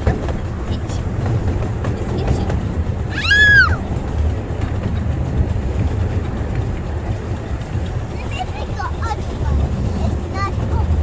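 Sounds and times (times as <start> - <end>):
miniature train rumbling: 0.0 - 11.0.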